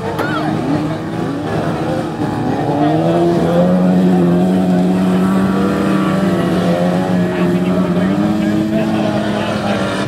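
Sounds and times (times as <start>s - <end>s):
car engines revving hard: 0.0s - 10.0s.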